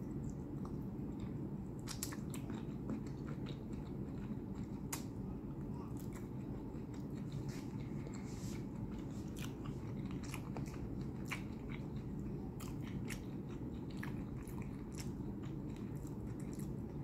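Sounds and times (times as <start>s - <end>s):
low hum: 0.0s - 17.0s
person chewing: 0.2s - 17.0s.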